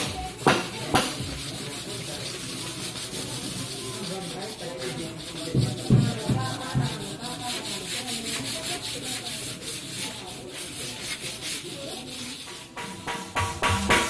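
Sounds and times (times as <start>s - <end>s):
rhythmic rubbing strokes: 0.0s - 14.0s.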